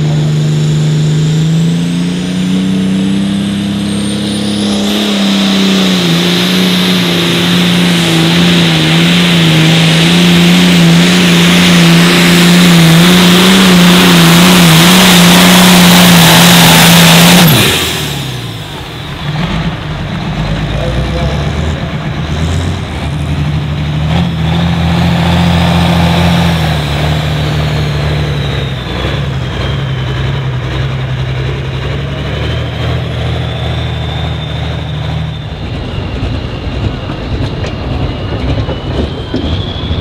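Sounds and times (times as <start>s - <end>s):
tractor diesel engine running hard: 0.0s - 40.0s.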